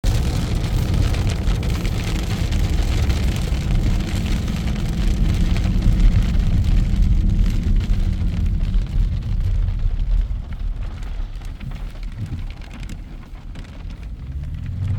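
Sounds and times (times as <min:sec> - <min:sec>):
deep rumble: 0:00.0 - 0:14.9
heavy rain and hail pelting: 0:00.0 - 0:14.9.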